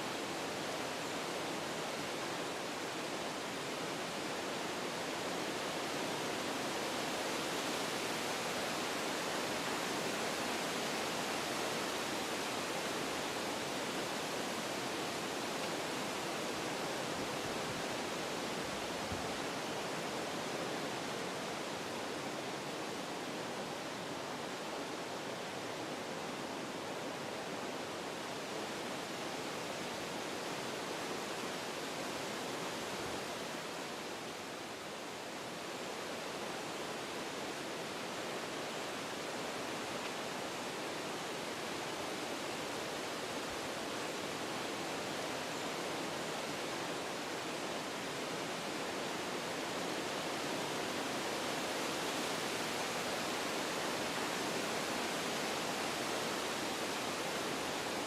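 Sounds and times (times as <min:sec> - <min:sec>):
wind through forest trees: 0:00.0 - 0:58.0.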